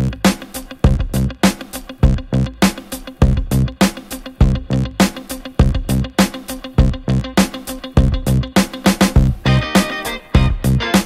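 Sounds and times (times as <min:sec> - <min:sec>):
funky electronic music: 0:00.0 - 0:11.0.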